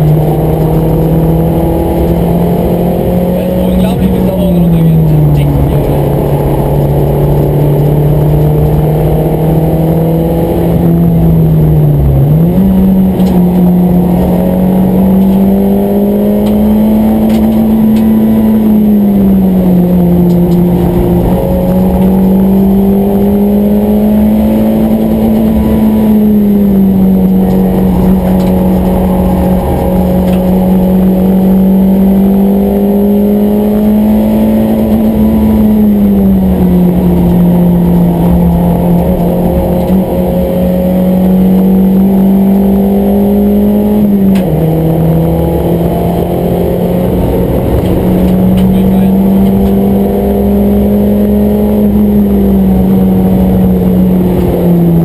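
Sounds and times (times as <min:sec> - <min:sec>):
car engine under load: 0:00.0 - 0:55.0
road rumble: 0:00.0 - 0:55.0.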